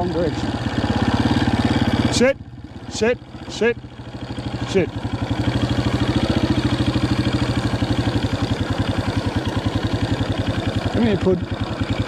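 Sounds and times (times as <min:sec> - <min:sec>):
farm bike engine putter: 0:00.0 - 0:12.0.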